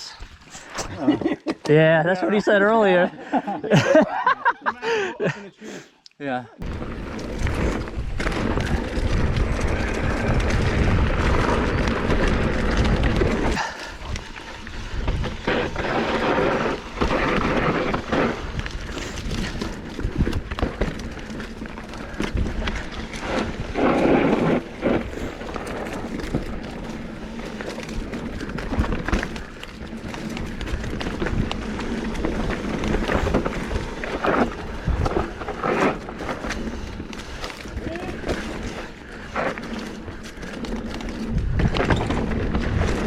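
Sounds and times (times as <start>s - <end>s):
bike knocking and rattling: 6.6s - 43.0s
bike tyre noise on dirt: 6.6s - 43.0s.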